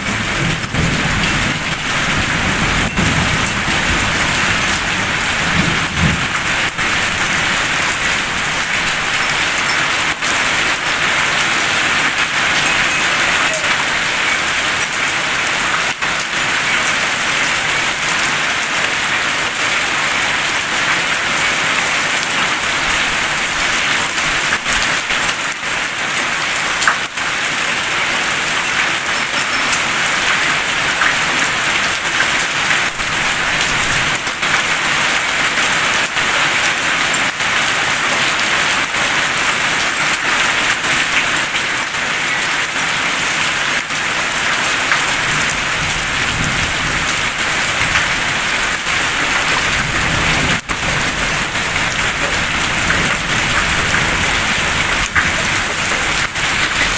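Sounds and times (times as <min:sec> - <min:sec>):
heavy rain on roofs: 0:00.0 - 0:56.9
close raindrop ticks: 0:00.1 - 0:56.9.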